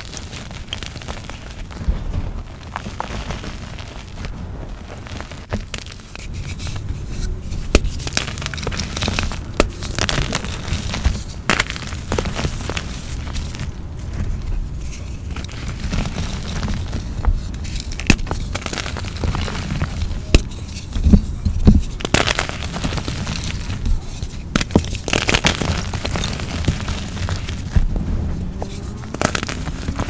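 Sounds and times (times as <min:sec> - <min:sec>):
chalk crunching and crumbling: 0:00.0 - 0:30.0.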